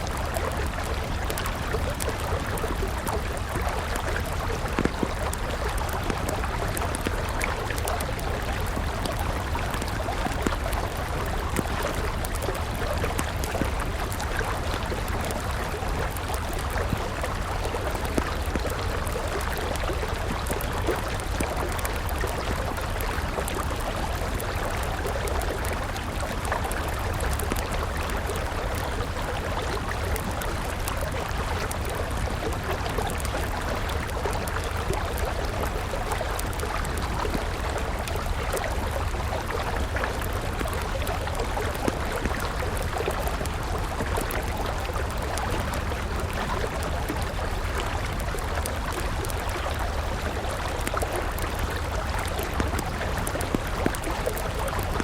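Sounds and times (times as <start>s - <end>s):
campfire crackling: 0.0s - 55.0s
river flowing: 0.0s - 55.0s.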